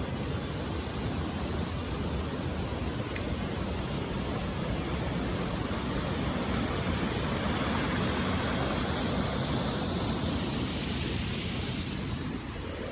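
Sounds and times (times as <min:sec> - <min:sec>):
river rushing over waterfalls: 0:00.0 - 0:12.9.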